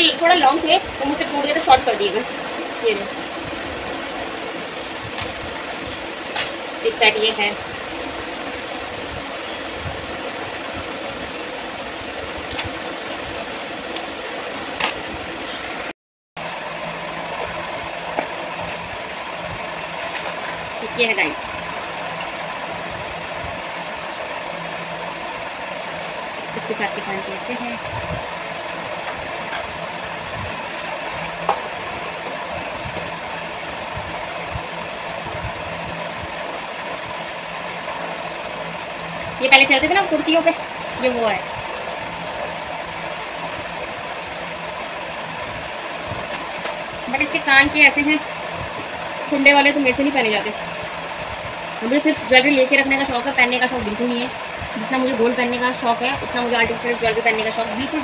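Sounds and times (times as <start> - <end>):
fan whooshing: 0.0 - 58.0
machine hum: 0.0 - 58.0.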